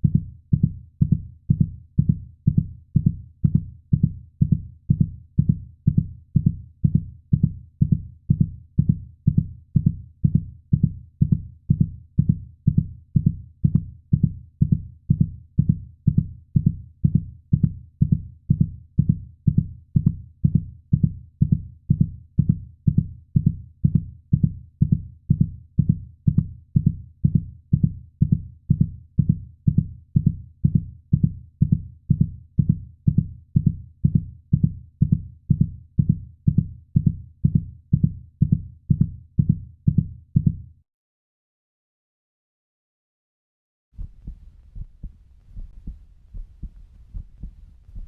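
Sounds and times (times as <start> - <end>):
heartbeat thumps: 0.0 - 40.6, 44.0 - 48.0.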